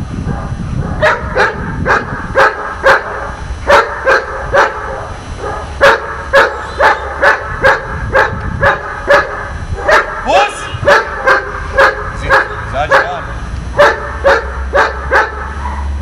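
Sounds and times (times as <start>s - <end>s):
dog barking: 0.3s - 16.0s.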